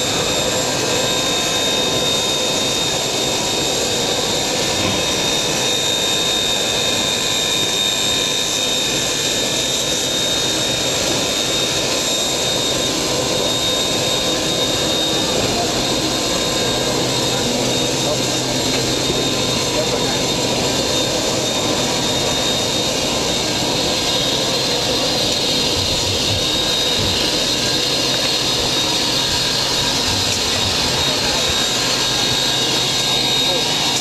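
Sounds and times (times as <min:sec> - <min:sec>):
high-pitched whine: 0:00.0 - 0:34.0.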